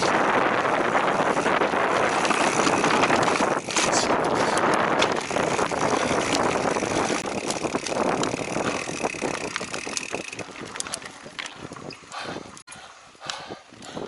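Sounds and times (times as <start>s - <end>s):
bike rattling over dirt trail: 0.0s - 12.6s
wind buffeting microphone: 0.0s - 14.0s.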